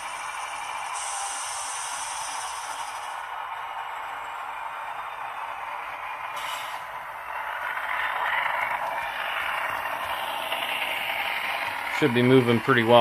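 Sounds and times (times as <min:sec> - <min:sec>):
model locomotive diesel engine sound: 0:00.0 - 0:13.0
wheels rolling on track: 0:00.0 - 0:13.0.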